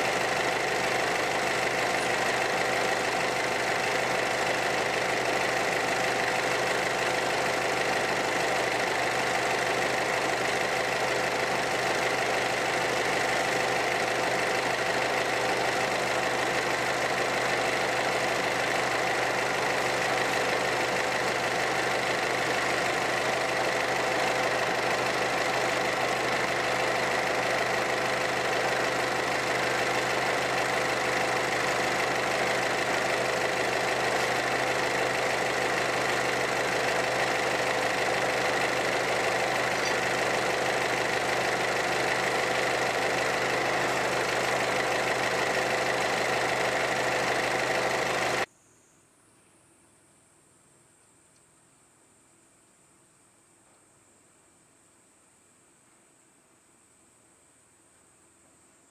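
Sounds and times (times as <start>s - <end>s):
small diesel engine running: 0.0s - 48.5s.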